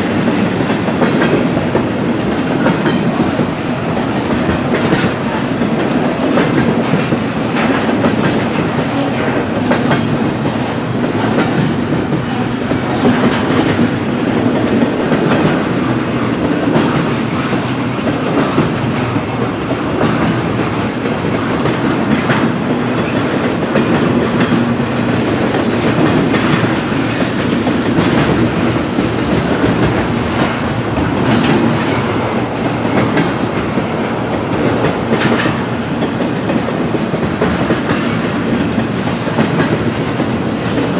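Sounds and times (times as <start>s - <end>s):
rumble of wheels on rail: 0.0s - 40.9s
wheels clicking over rail joints: 0.0s - 40.9s.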